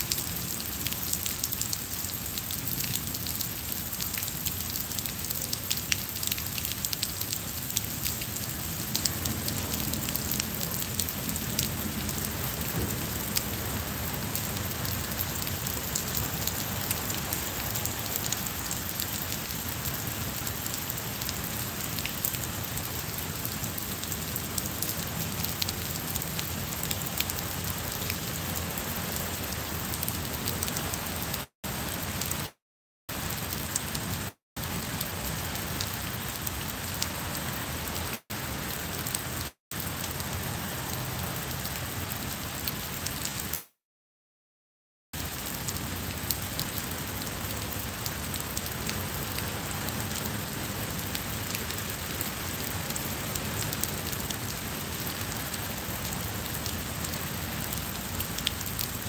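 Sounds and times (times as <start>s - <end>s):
rain on stone paving and plants: 0.0s - 43.8s, 45.2s - 59.0s.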